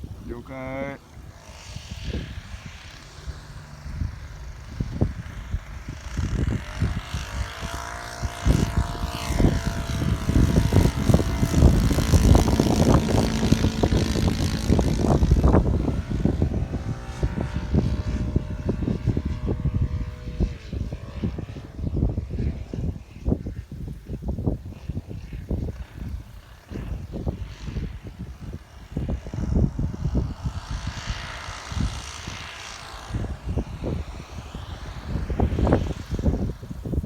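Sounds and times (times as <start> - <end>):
model plane engine in flight: 0.0 - 37.0
wind buffeting microphone: 0.0 - 37.0.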